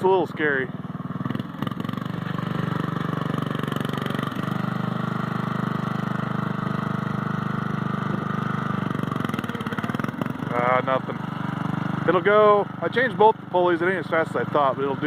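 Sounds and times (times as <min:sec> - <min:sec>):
lawn tractor engine running: 0:00.0 - 0:15.0.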